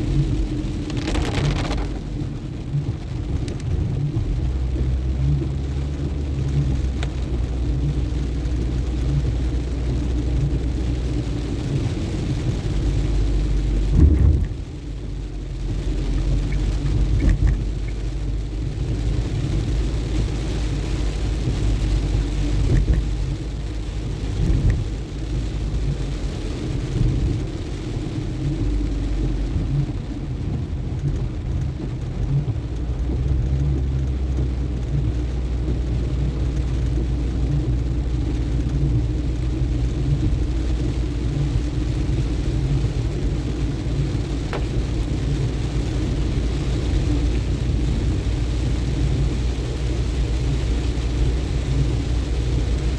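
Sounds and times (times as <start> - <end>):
engine and tyres rumbling: 0.0 - 52.9
rain hissing: 0.0 - 52.9.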